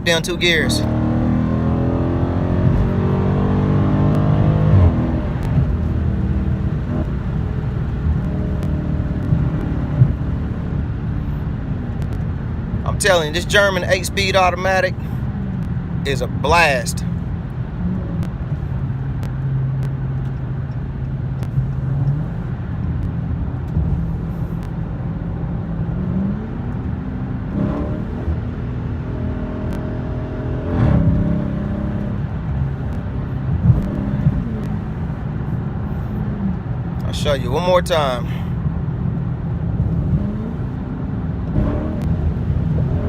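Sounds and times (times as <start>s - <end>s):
car exhaust drone: 0.0s - 43.0s.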